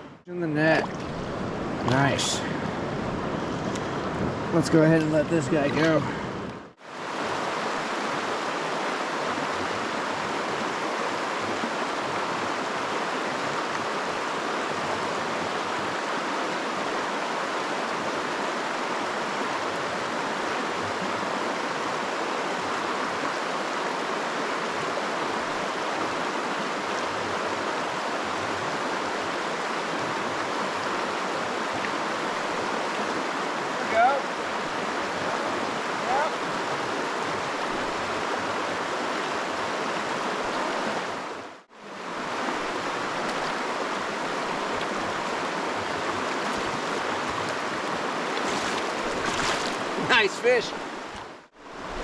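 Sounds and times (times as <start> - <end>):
river water rushing: 0.0 - 52.0.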